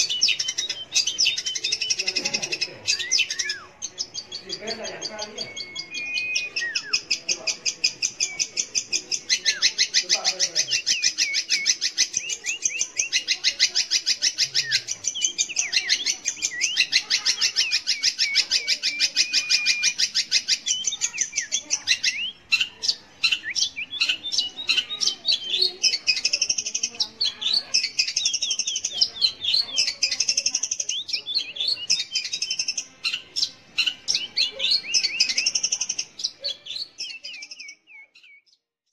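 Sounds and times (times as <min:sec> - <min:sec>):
bird singing rapid chattering notes: 0:00.0 - 0:38.7.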